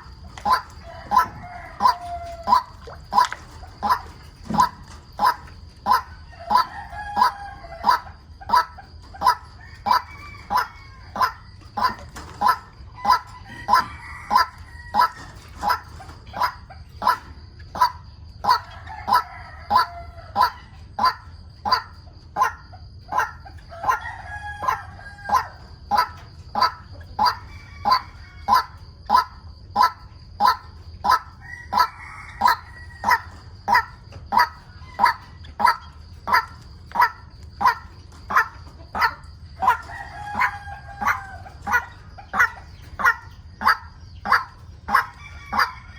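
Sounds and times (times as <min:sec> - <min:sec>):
waterhen croaking: 0:00.0 - 0:45.9.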